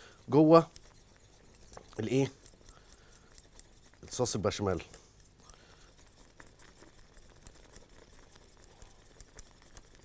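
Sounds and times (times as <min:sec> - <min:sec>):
whisk scraping saucepan: 0:00.0 - 0:10.0.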